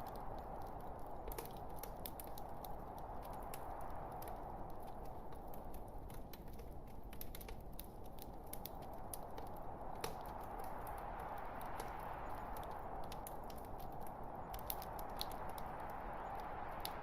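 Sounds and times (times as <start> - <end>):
low hiss of flame: 0.0 - 17.0
wood fire crackling and popping: 0.0 - 17.0.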